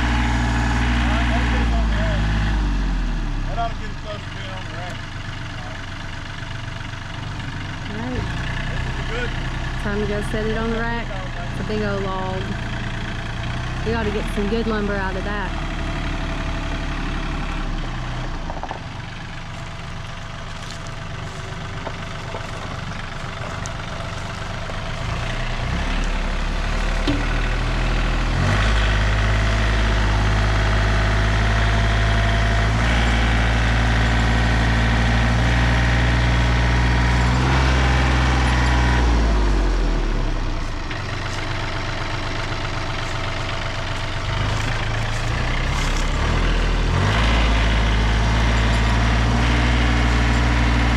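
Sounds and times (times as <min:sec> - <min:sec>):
machine engine running: 0:05.5 - 0:50.9.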